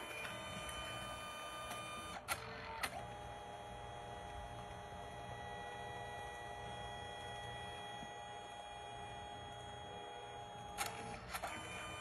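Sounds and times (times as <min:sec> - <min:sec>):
photo printer motor whine: 0:00.0 - 0:12.0.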